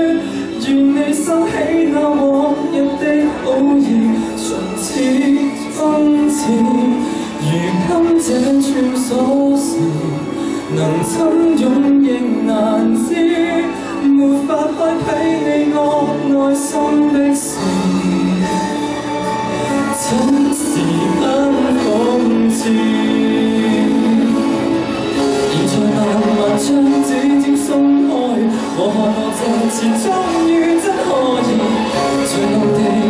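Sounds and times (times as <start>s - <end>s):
instrumental accompaniment: 0.0s - 33.0s
man singing into a microphone: 0.0s - 33.0s.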